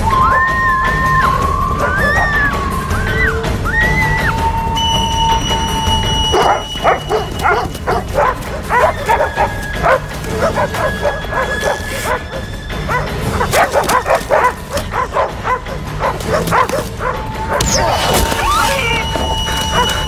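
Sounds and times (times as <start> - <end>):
dogs barking and yelping: 0.0 - 20.0
film score held tones: 0.0 - 20.0.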